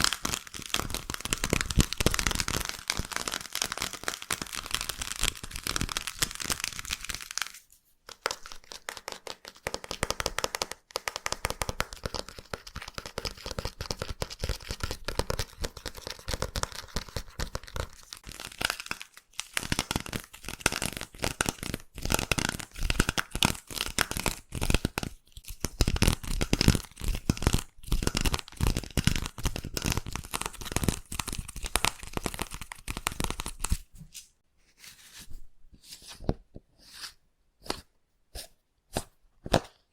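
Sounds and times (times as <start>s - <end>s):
slime crackling and popping: 0.0s - 7.6s, 8.3s - 33.8s.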